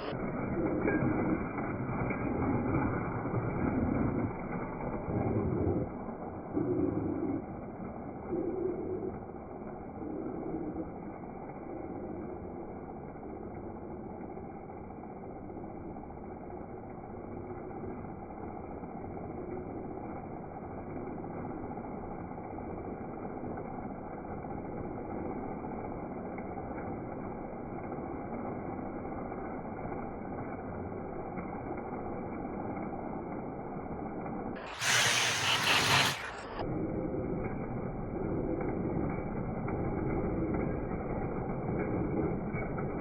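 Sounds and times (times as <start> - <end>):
steam sound effect: 0.0 - 25.5, 26.1 - 43.0
model train motor and wheels running: 0.0 - 43.0.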